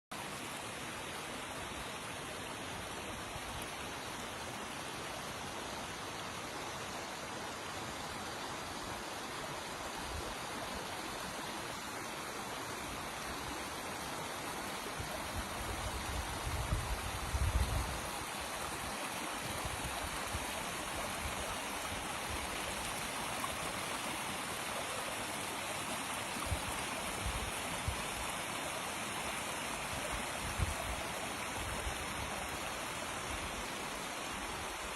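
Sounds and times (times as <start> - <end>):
stream of water running: 0.1 - 34.9.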